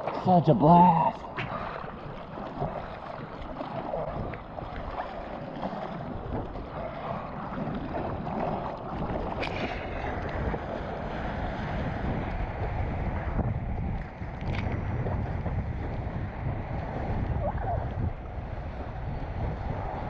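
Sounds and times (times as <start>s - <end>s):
wind buffeting microphone: 0.0s - 20.0s
water splashing against surfboard: 1.1s - 18.8s.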